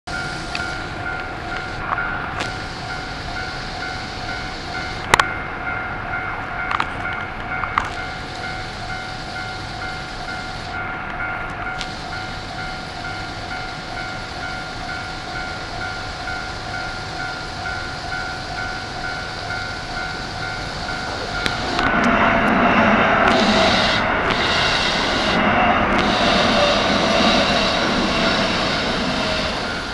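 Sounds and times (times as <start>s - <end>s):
train arriving: 0.0s - 29.9s.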